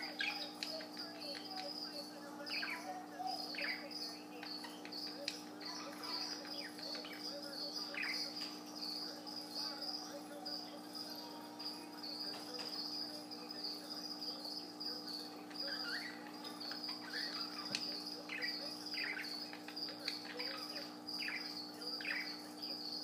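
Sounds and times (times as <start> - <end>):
budgerigar chattering: 0.0 - 23.0.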